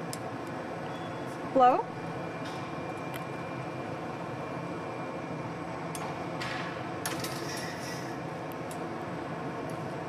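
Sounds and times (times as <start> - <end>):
furnace burners roaring: 0.0 - 10.0.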